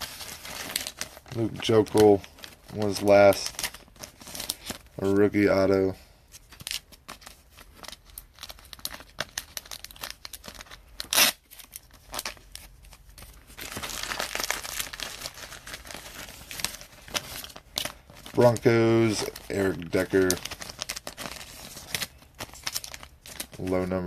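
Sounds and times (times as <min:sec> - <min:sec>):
packaging crinkling and tearing: 0:00.0 - 0:24.0.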